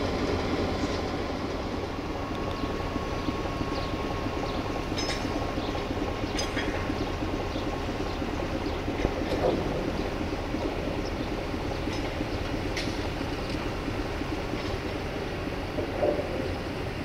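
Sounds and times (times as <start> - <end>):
train rumble and hiss: 0.0 - 17.0.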